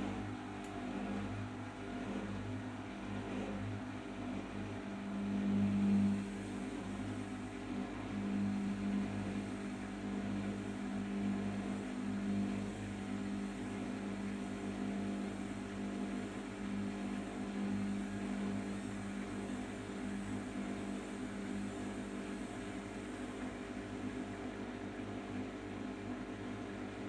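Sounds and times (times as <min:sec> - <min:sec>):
washing machine spinning hum: 0:00.0 - 0:27.0.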